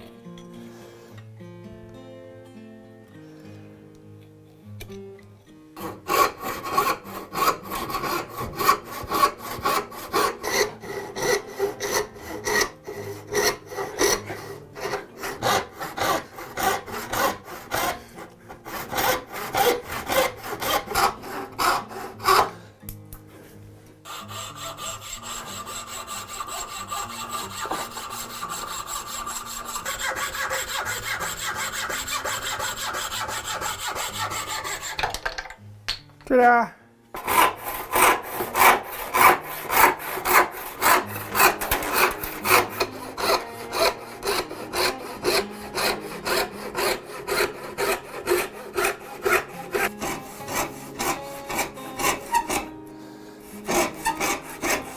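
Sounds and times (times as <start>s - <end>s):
hand tool cutting wood: 5.8s - 22.6s, 24.1s - 35.2s, 37.2s - 52.8s, 53.4s - 54.9s.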